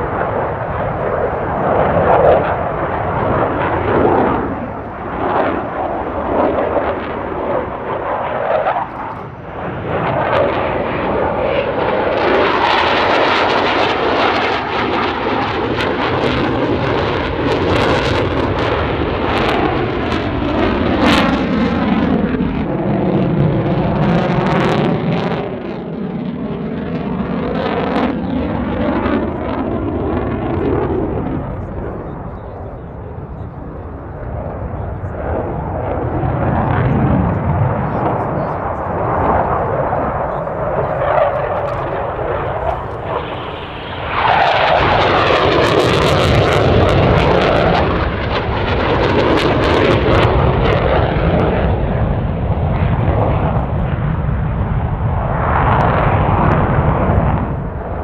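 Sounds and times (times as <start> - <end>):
fighter jet engines roaring: 0.0 - 58.0
jet engine crackling: 0.0 - 58.0.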